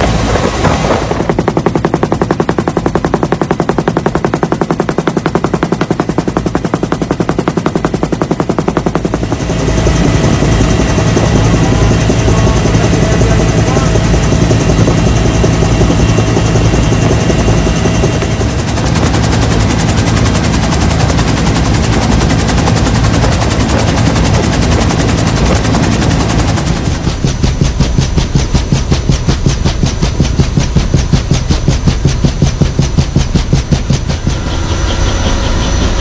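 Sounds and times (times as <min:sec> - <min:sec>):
rotor and engine noise: 0:00.0 - 0:36.0.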